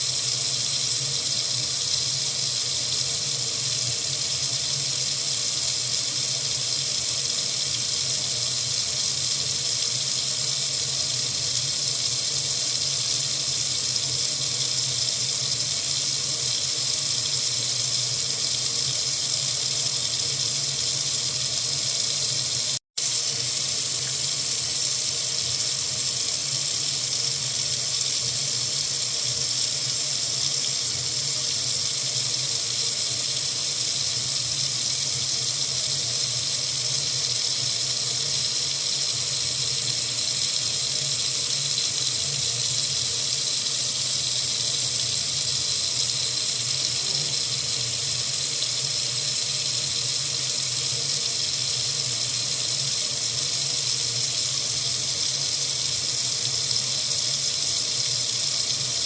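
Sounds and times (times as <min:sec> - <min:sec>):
water faucet running: 0:00.0 - 0:59.0.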